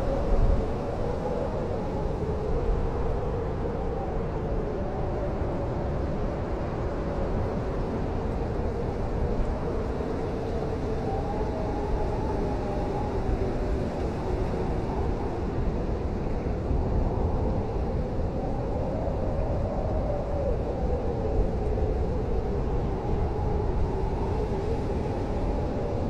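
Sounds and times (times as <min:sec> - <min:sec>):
blizzard wind howling: 0:00.0 - 0:26.0.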